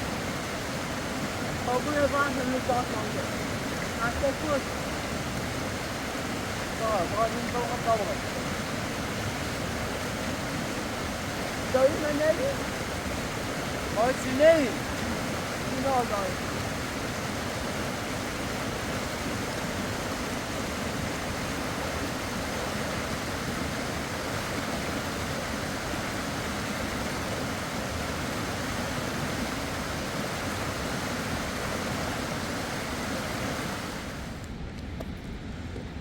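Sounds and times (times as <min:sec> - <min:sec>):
river water rushing: 0:00.0 - 0:34.5.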